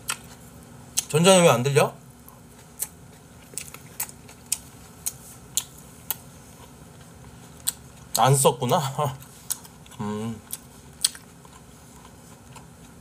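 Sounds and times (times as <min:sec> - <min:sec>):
chewing crunchy food: 0:00.0 - 0:01.1, 0:02.2 - 0:08.4, 0:09.2 - 0:13.0.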